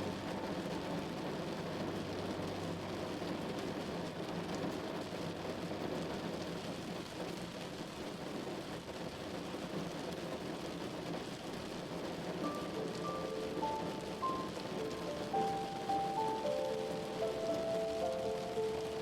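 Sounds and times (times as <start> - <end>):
heavy rain on a moving car: 0.0 - 19.0.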